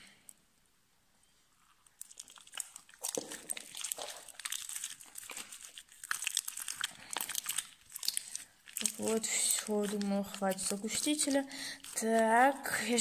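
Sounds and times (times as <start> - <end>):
slime sticky clicks and crackles: 1.9 - 13.0.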